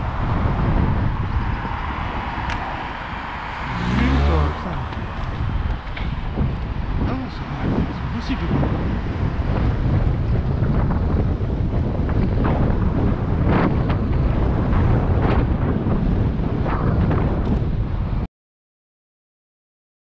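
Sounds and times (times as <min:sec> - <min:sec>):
wind buffeting microphone: 0:00.0 - 0:18.3.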